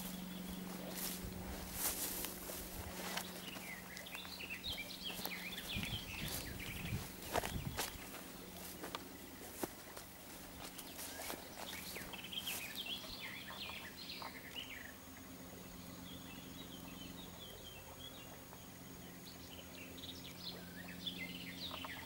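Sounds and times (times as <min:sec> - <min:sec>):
faint low hum: 0:00.0 - 0:22.0
songbirds singing and chirping: 0:00.0 - 0:22.0.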